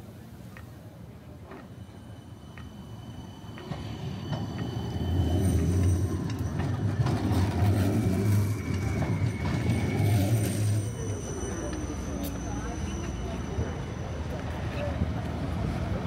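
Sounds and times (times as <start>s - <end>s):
tram rumble: 0.0s - 16.0s.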